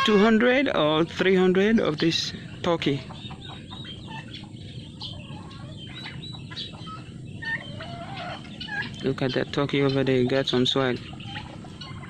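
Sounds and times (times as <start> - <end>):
turkeys and chickens calling: 0.0 - 12.0.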